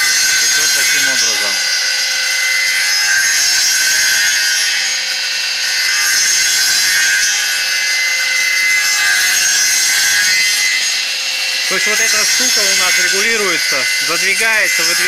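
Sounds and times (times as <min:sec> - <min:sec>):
circular saw cutting wood: 0:00.0 - 0:15.0.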